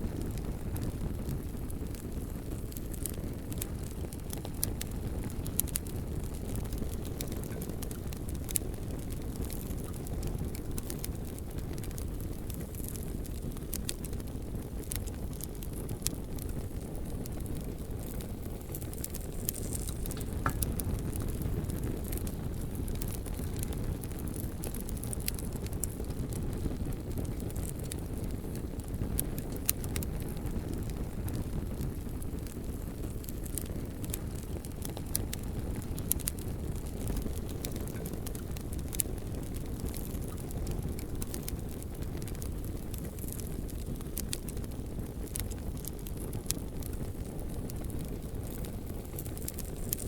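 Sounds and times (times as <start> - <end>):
bonfire flame rushing: 0.0 - 50.0
logs crackling and popping: 0.0 - 50.0.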